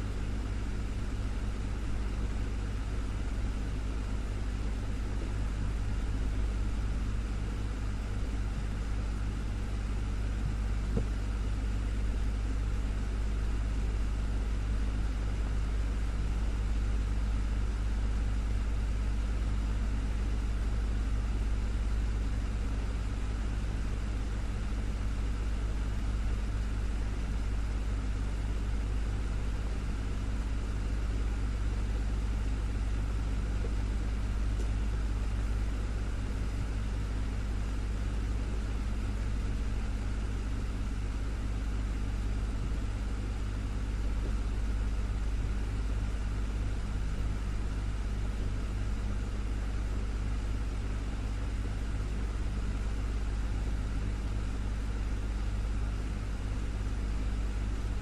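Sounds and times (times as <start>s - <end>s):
desktop fan humming: 0.0s - 58.0s.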